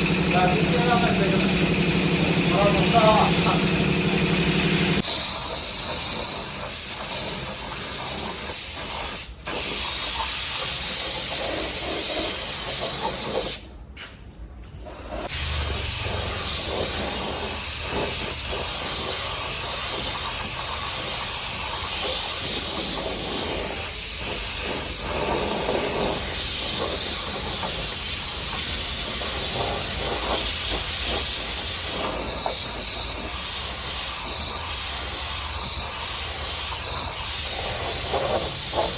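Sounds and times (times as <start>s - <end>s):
paint spray gun hissing: 0.0s - 13.6s, 15.3s - 38.9s.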